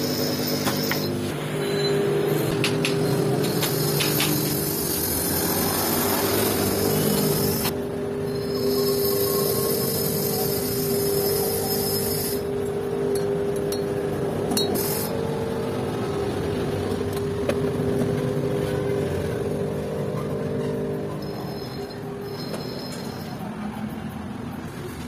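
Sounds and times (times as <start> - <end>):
machine humming: 0.0 - 24.7.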